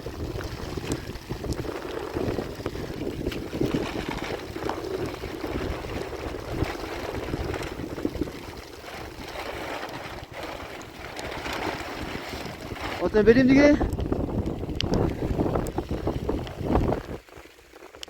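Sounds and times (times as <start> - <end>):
rain rushing: 0.0 - 18.0
wind buffeting microphone: 0.0 - 18.0.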